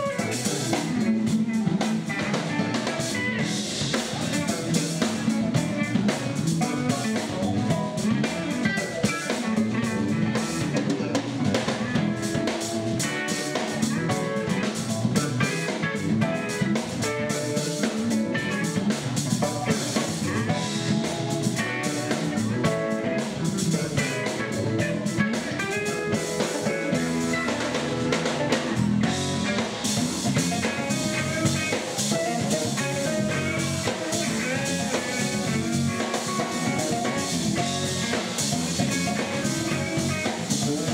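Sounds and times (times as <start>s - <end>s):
drum kit: 0.0s - 40.9s
electric bass: 0.0s - 40.9s
electric guitars: 0.0s - 40.9s
keyboard: 0.0s - 40.9s.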